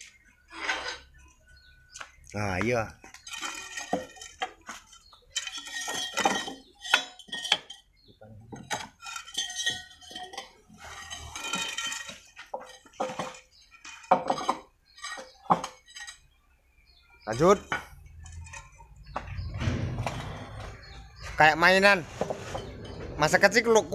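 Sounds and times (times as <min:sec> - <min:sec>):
steel pipes clanking together: 0:03.1 - 0:16.3, 0:17.2 - 0:23.9.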